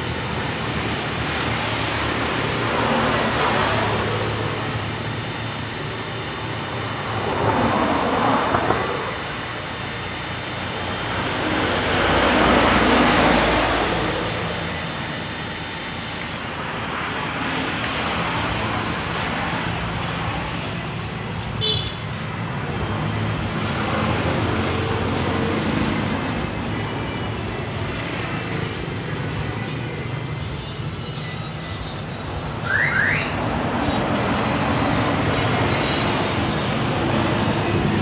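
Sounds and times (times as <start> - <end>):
traffic background rumble: 0.0 - 38.0
vehicles passing: 0.0 - 38.0.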